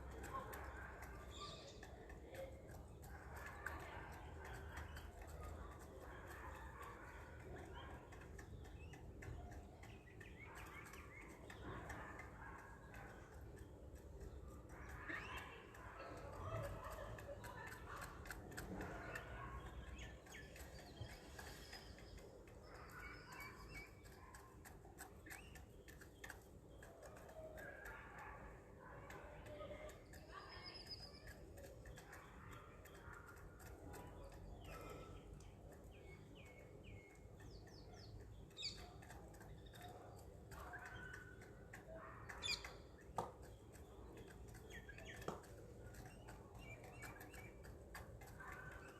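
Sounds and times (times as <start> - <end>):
faint birds chirping: 0.0 - 48.9.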